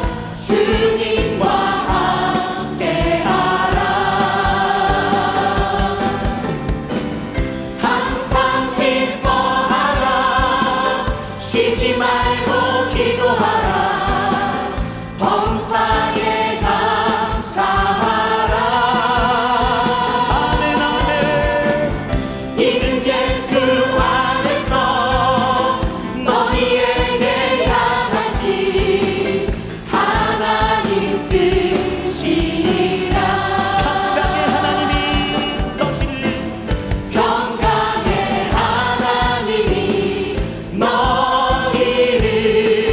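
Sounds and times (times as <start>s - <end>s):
band accompaniment: 0.0s - 42.9s
choir and congregation singing hymn: 0.0s - 42.9s.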